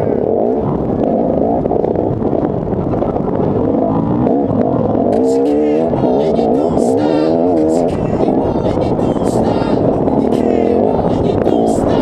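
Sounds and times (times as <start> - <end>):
chassis rattle: 0.0 - 12.0
dirt bike engine revving: 0.0 - 12.0
wind noise: 0.0 - 12.0.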